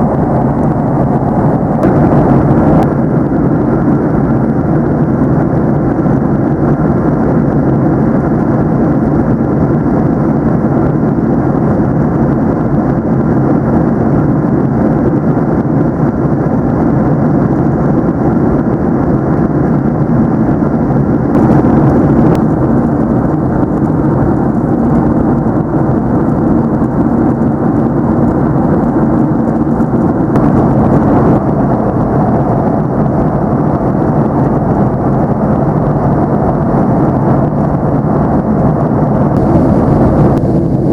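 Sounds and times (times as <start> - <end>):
jet cabin roar: 0.0 - 40.9.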